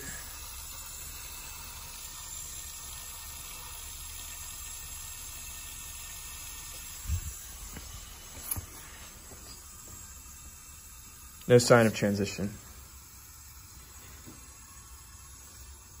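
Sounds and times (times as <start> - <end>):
water running through tubing: 0.0 - 16.0.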